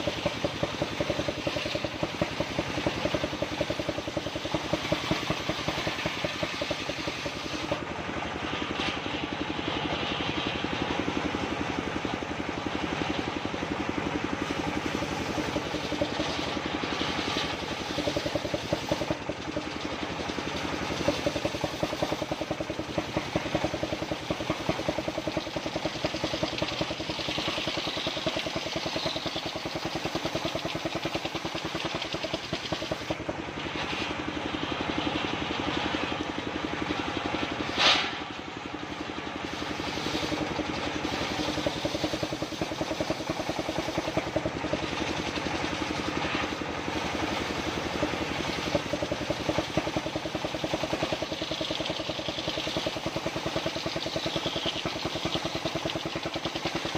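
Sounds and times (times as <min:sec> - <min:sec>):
circular saw engine running: 0:00.0 - 0:56.9.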